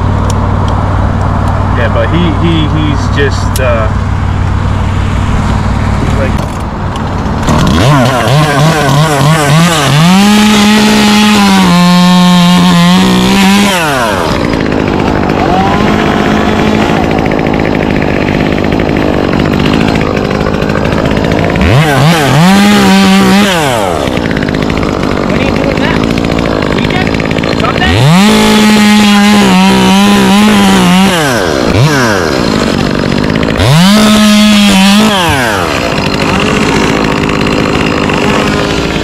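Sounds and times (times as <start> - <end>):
chainsaw revving and idling: 0.0 - 39.0.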